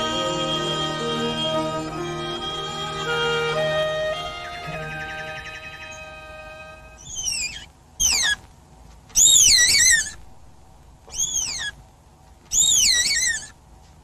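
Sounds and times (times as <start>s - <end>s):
deer fawn squealing cries: 0.0s - 8.5s, 9.1s - 10.3s, 11.0s - 11.8s, 12.5s - 13.6s.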